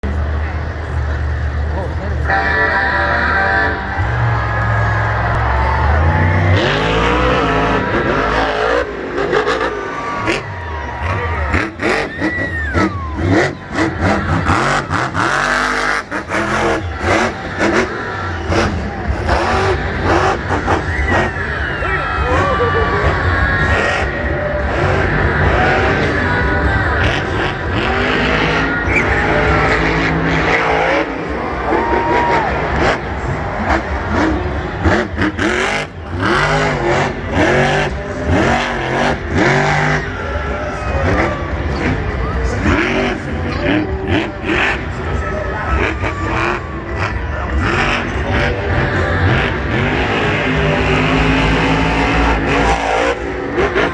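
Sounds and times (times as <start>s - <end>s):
monster truck engine revving: 0.0s - 53.9s.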